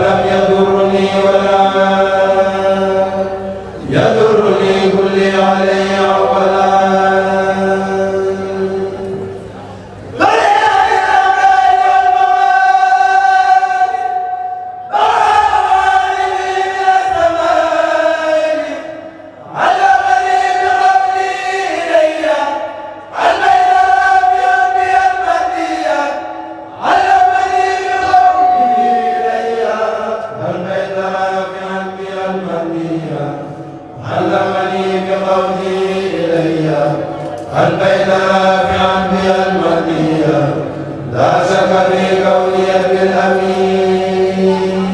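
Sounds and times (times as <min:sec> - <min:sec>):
men chanting together: 0:00.0 - 0:09.5, 0:10.1 - 0:44.9.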